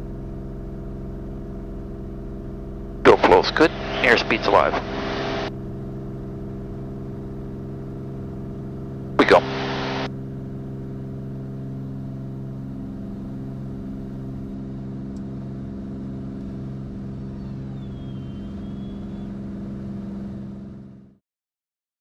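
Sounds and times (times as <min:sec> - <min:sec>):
propeller plane engine at full power: 0:00.0 - 0:21.2.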